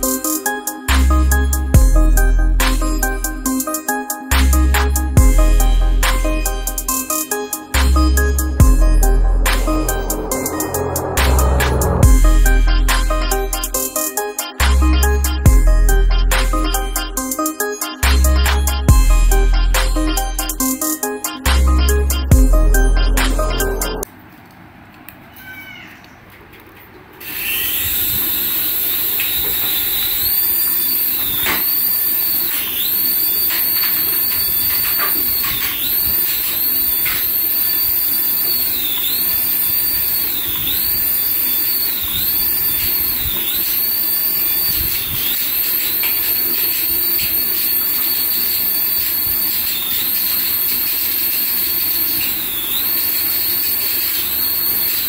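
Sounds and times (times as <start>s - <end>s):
toy electric motor whine: 0.0s - 24.1s, 27.2s - 55.0s.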